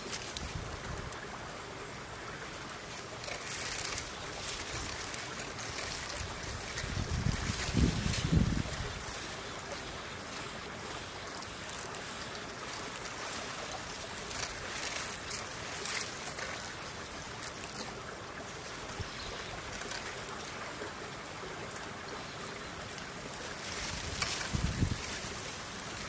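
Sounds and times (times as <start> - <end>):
faint high crackles: 0.0 - 26.0
outdoor background hiss: 0.0 - 26.0.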